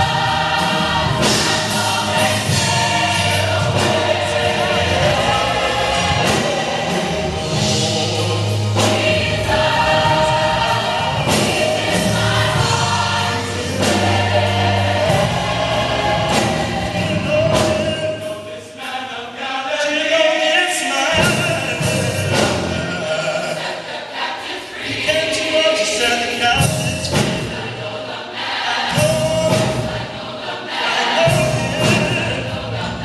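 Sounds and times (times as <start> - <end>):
gospel choir singing: 0.0 - 33.0.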